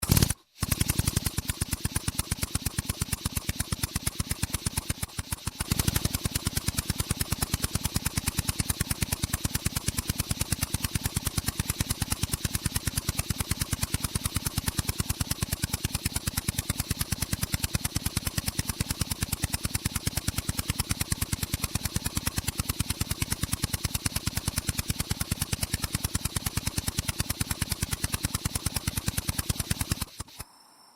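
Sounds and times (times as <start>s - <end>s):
jackhammer hammering: 0.0s - 30.4s.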